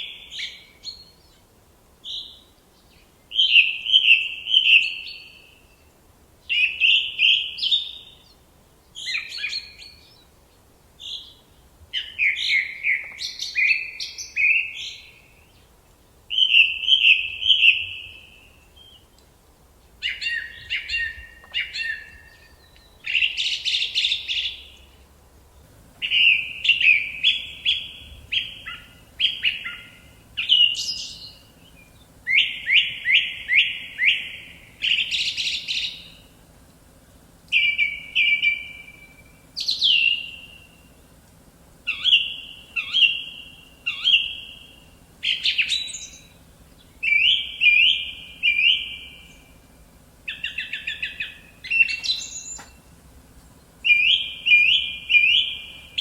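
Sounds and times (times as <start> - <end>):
songbird whistles and trills: 0.0 - 1.4, 2.0 - 5.9, 6.5 - 10.4, 11.0 - 15.7, 16.3 - 19.2, 20.0 - 25.0, 26.0 - 36.3, 37.4 - 41.1, 41.9 - 56.0.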